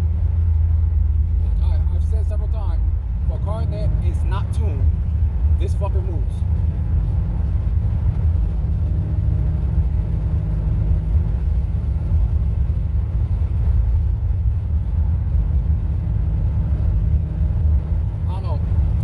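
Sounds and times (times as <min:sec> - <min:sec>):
deep exhaust rumble: 0:00.0 - 0:19.0.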